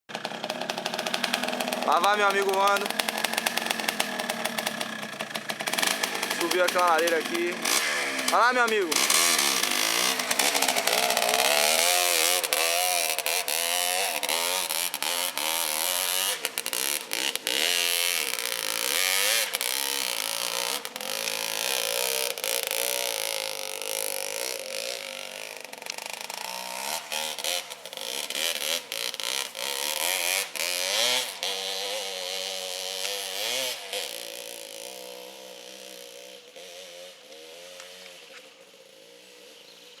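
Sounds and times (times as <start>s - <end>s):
motorcycle engine roaring: 0.1s - 40.0s.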